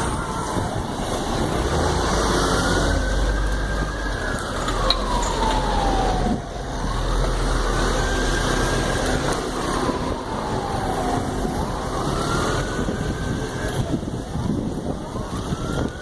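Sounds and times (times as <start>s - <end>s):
road traffic rumble: 0.0s - 16.0s
siren wailing: 0.0s - 16.0s.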